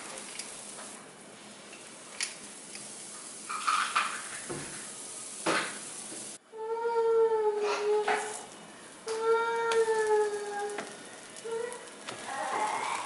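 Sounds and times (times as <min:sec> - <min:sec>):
pancake batter sizzling: 0:00.0 - 0:06.4, 0:07.9 - 0:13.0.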